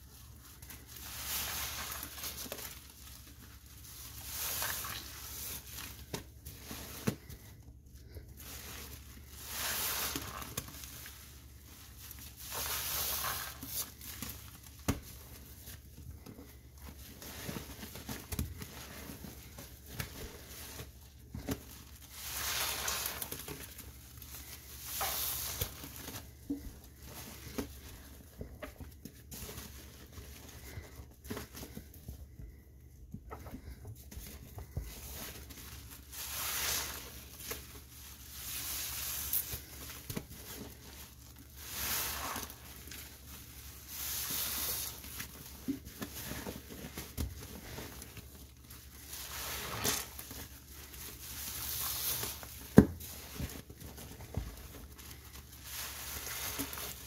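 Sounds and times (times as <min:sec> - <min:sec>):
wet sponge squishing: 0:00.0 - 0:57.0.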